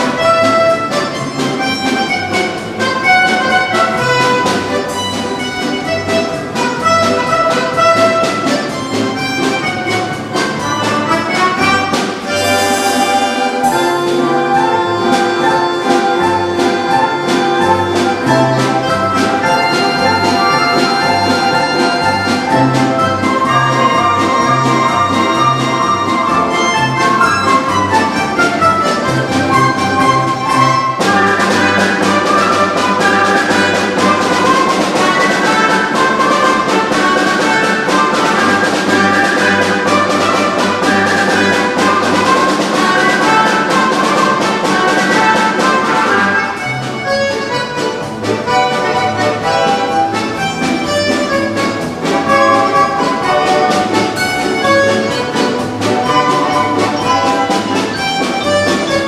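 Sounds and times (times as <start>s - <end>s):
orchestral polka music: 0.0s - 59.0s.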